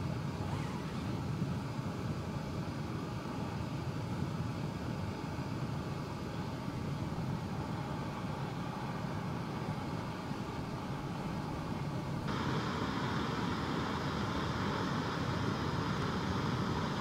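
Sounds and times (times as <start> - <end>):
low rumble of outdoor noise: 0.0 - 17.0.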